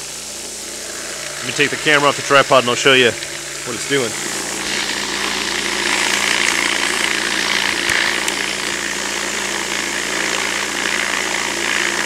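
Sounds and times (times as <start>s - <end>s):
tumbler motor humming: 0.0s - 12.0s.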